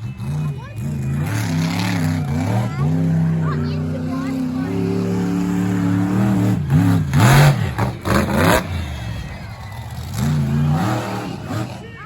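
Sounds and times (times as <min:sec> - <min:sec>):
truck engine running and revving: 0:00.0 - 0:12.0.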